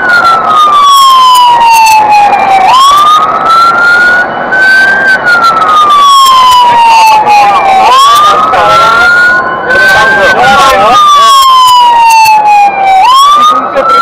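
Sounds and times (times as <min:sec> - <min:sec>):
fire engine siren wailing: 0:00.0 - 0:14.0.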